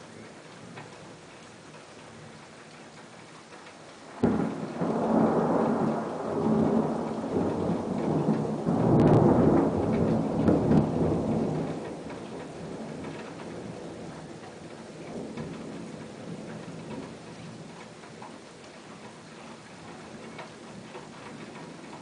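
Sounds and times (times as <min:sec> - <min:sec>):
thunder crack and rumble: 0:04.1 - 0:22.0.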